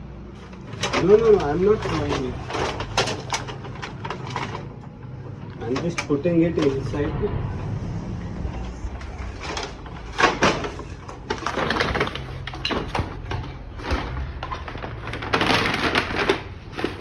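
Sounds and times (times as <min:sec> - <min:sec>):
crinkling rustling handling: 0:00.1 - 0:06.9, 0:09.4 - 0:17.0.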